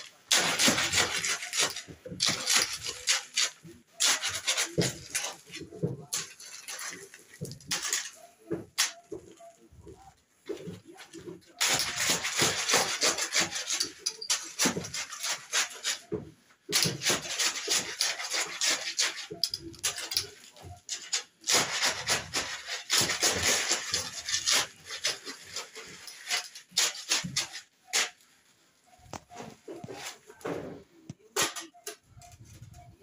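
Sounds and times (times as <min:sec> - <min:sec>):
shovel scraping concrete mix: 0:00.0 - 0:33.0.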